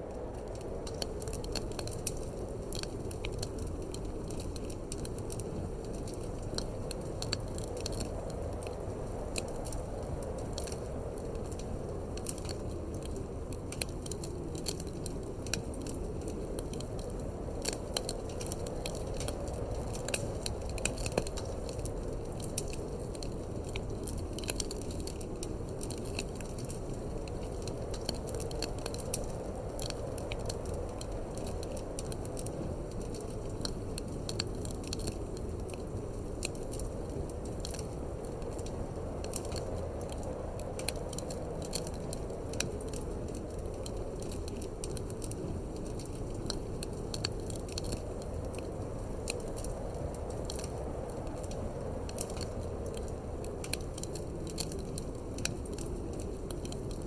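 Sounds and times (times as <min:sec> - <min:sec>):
low rumble of wind: 0:00.0 - 0:57.0
wood fire crackling and popping: 0:00.0 - 0:57.0.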